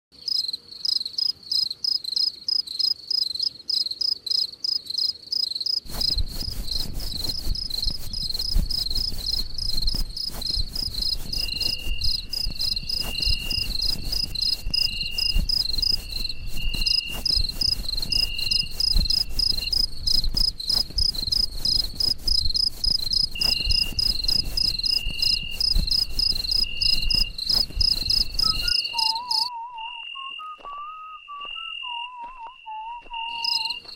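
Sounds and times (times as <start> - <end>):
crickets chirping: 0.2 - 33.9.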